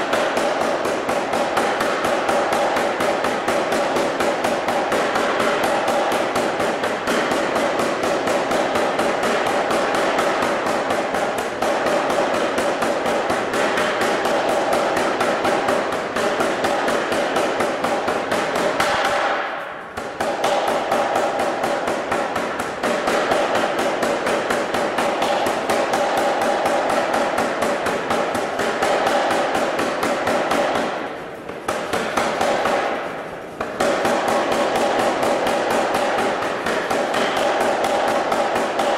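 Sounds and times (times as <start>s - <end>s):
power hammer striking hot steel: 0.0s - 31.1s, 31.7s - 38.9s.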